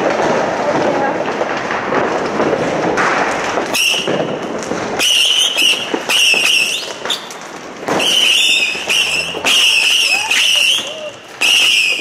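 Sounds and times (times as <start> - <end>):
firework crackles and pops: 0.0 - 12.0
firework whistling: 0.0 - 12.0.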